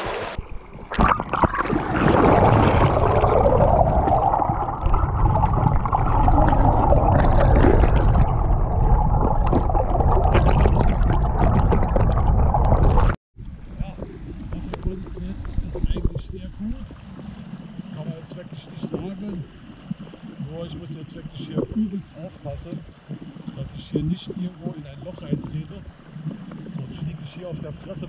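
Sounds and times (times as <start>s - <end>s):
muffled underwater rush: 0.0s - 28.0s.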